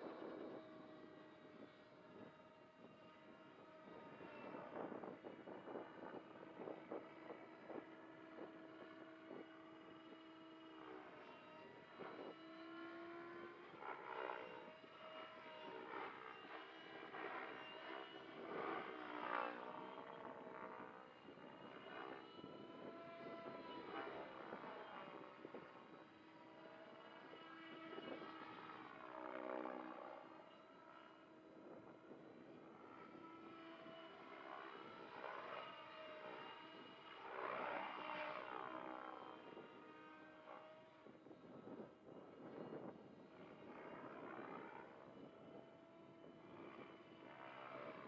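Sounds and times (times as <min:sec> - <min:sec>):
model helicopter rotor whine: 0:00.0 - 0:48.0.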